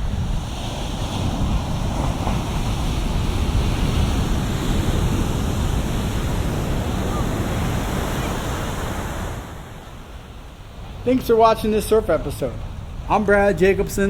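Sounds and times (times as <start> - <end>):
waves breaking on shore: 0.0 - 14.0
wind buffeting microphone: 0.0 - 14.0.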